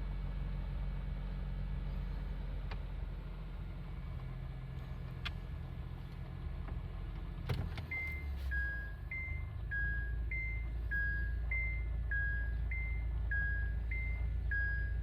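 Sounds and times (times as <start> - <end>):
car engine idling hum: 0.0 - 15.0.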